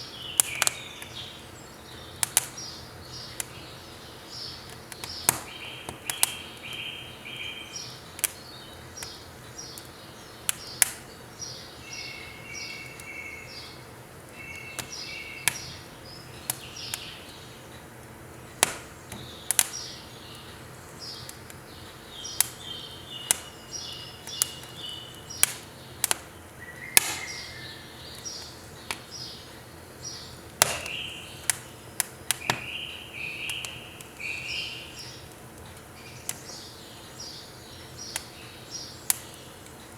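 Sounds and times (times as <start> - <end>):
firewood crackling and popping: 0.0 - 39.9
small birds chirping: 0.0 - 39.9.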